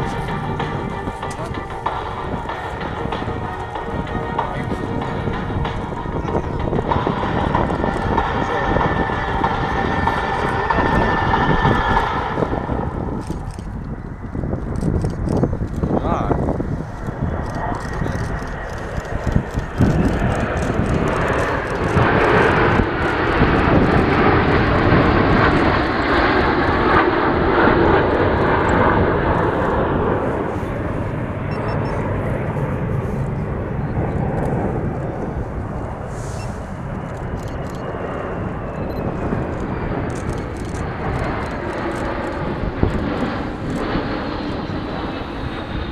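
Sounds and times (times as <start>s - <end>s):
jet engines roaring past: 0.0s - 45.9s
thin jet whine: 0.0s - 45.9s.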